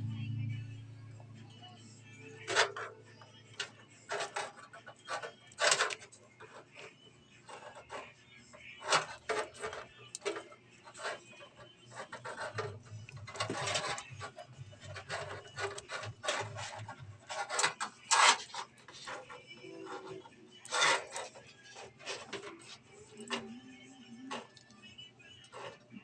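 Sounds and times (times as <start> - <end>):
parts scraping in a computer case: 2.4 - 23.5.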